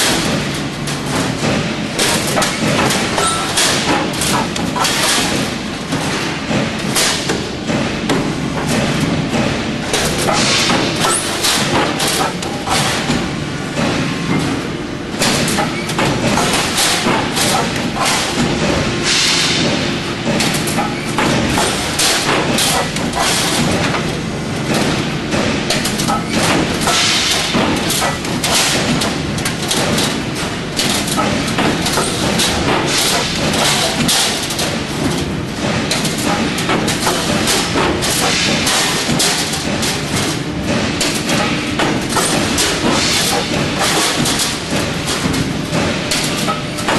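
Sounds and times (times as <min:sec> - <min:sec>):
roll-forming machine running: 0:00.0 - 0:46.9
sharp mechanical knocks: 0:00.0 - 0:46.9.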